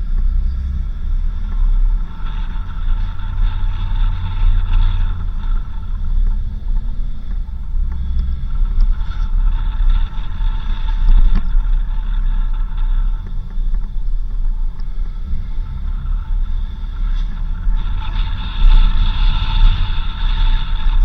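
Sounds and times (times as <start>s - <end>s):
vehicle engine and tyres rumbling: 0.0s - 21.0s.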